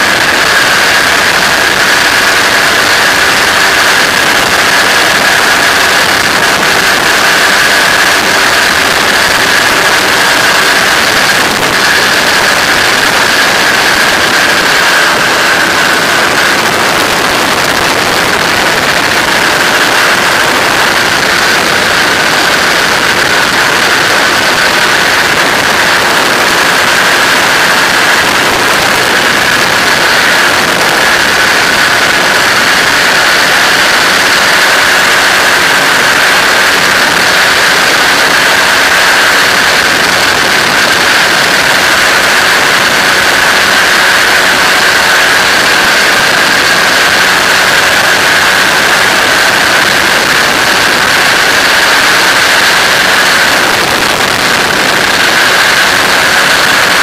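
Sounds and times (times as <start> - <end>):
aircraft engine droning: 0.0 - 57.0
wind rushing on microphone: 0.0 - 57.0.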